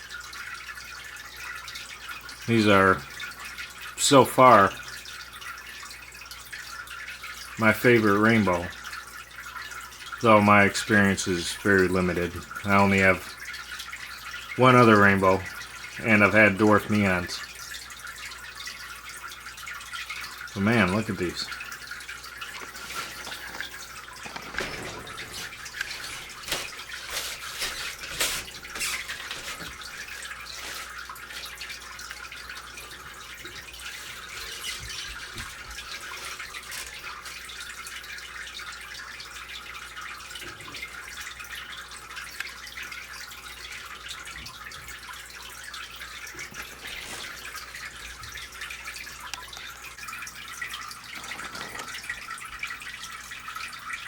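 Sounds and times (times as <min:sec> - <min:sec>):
aquarium water trickling and splashing: 0:00.0 - 0:54.0.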